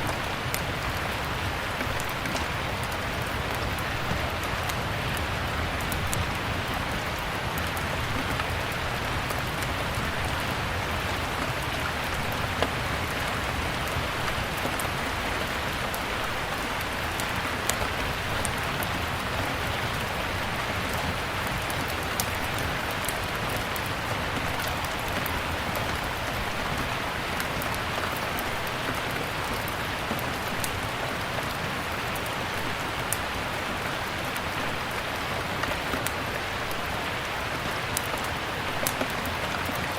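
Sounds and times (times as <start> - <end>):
fireplace fire crackling: 0.0 - 39.9
steady rain: 0.0 - 39.9.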